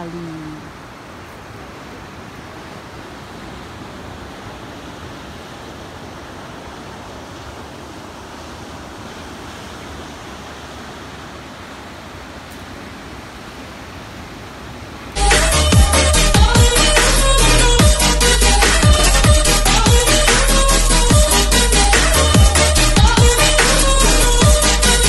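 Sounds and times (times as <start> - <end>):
ocean surf over rocks: 0.0 - 25.0.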